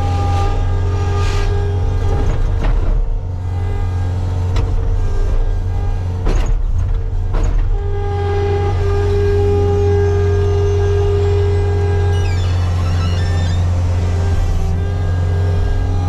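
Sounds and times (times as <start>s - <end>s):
clunks: 0.1s - 16.0s.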